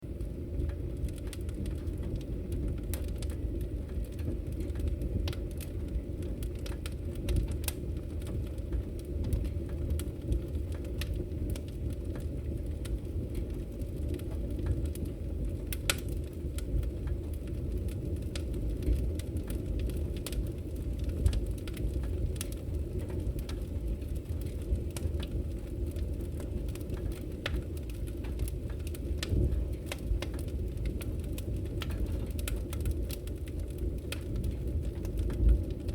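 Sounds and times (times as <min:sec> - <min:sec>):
burning logs crackling and popping: 0:00.0 - 0:35.9
rumble of fire flames: 0:00.0 - 0:35.9.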